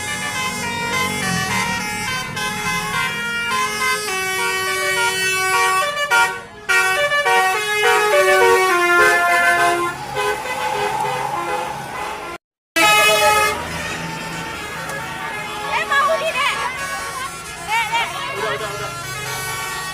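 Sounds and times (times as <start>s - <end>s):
bus musical horn melody: 0.0s - 19.9s.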